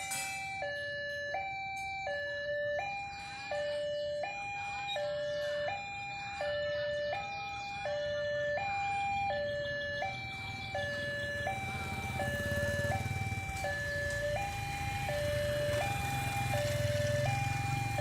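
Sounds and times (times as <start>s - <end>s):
two-tone warning siren: 0.0s - 18.0s.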